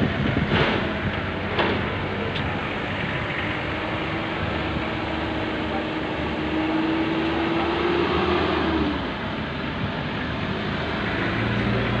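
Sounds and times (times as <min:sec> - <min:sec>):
truck engine drone: 0:00.0 - 0:12.0
vehicles driving past: 0:00.0 - 0:12.0.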